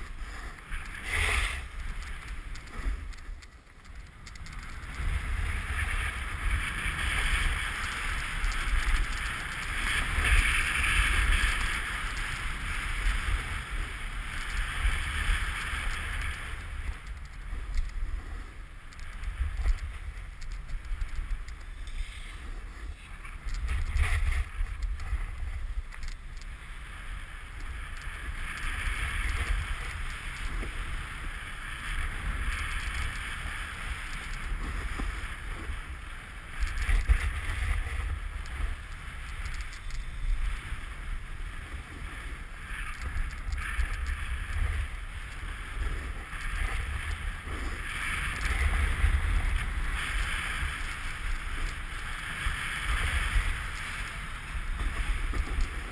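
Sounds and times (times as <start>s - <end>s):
snowboard scraping over snow: 0.0s - 3.4s, 4.6s - 55.9s
wind rumbling on microphone: 0.0s - 55.9s.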